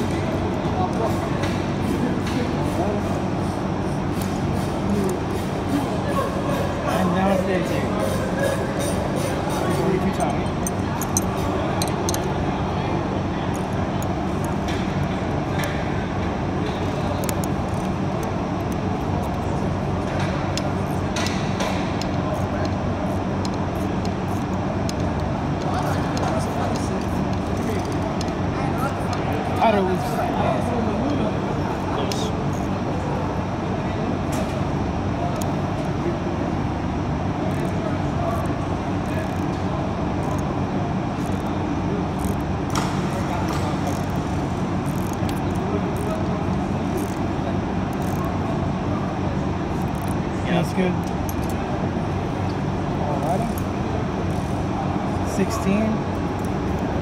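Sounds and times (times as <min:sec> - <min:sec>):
mechanical drone with low hum: 0:00.0 - 0:57.0.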